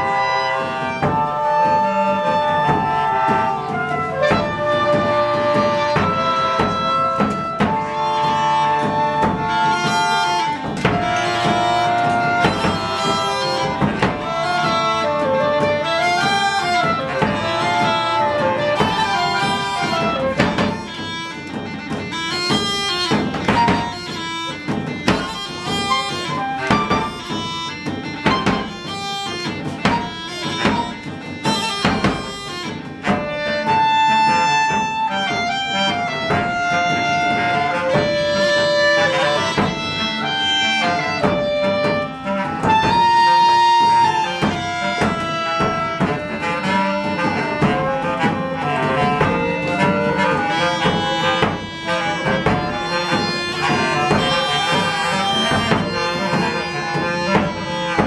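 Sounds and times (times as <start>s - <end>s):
flutes and clarinets melody: 0.0s - 58.0s
hand drum and percussion: 0.0s - 58.0s.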